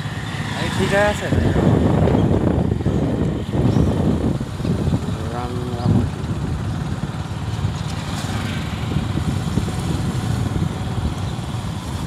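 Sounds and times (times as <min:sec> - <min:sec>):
wind rumble on microphone: 0:00.0 - 0:12.0
motorcycle engine running: 0:01.6 - 0:12.0.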